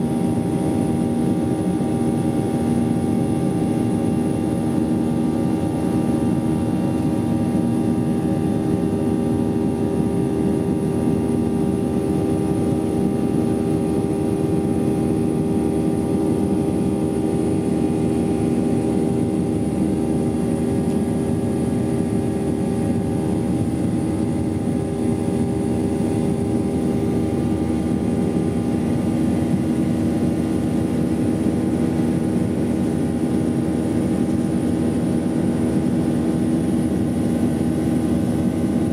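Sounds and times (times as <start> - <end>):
airliner engine drone in cabin: 0.0 - 38.9.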